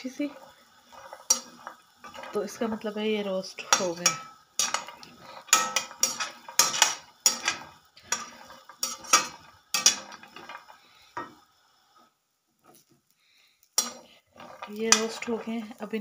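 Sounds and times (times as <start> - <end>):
metal spatula scraping frying pan: 0.0 - 11.4, 13.8 - 16.0.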